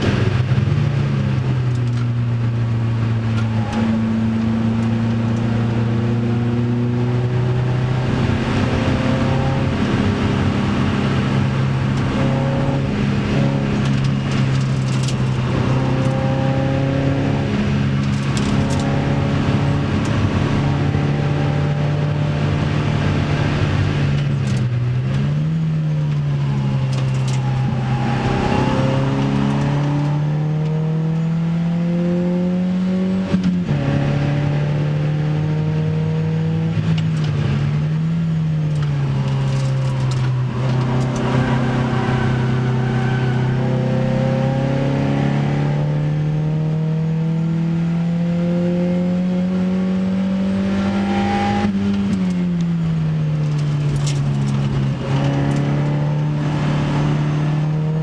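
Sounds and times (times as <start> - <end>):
car engine pulling hard: 0.0 - 58.0.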